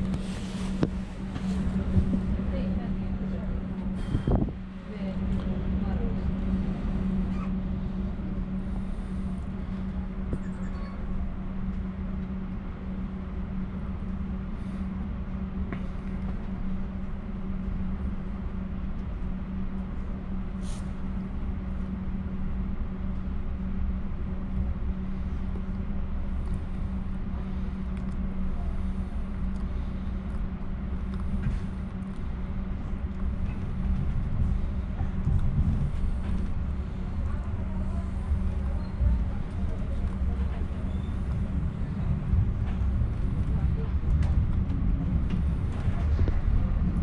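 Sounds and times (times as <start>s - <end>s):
constant hum: 0.0s - 47.0s
train wheels rumbling on track: 0.0s - 47.0s.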